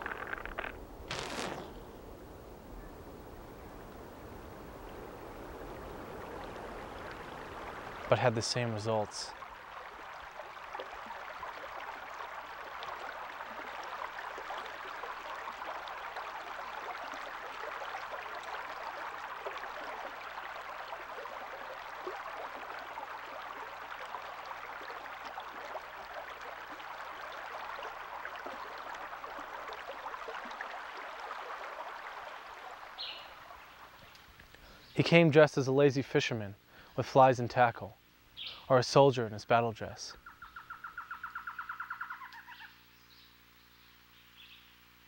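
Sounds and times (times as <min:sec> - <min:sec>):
running water hiss: 0:00.0 - 0:45.0.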